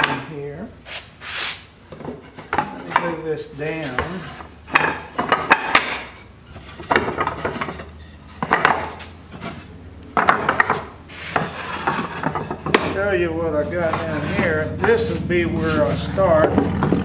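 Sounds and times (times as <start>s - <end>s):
wooden boards knocking and scraping: 1.9s - 17.0s.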